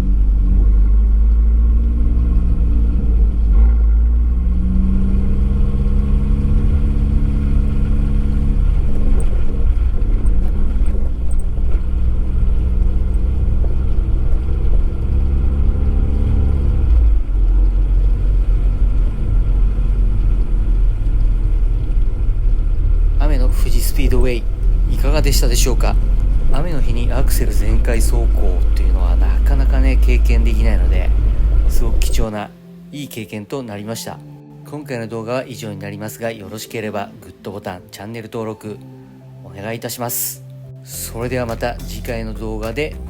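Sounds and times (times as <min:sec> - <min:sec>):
car engine and exhaust running: 0:00.0 - 0:32.7, 0:40.9 - 0:43.0
low road noise rumble: 0:00.0 - 0:43.0.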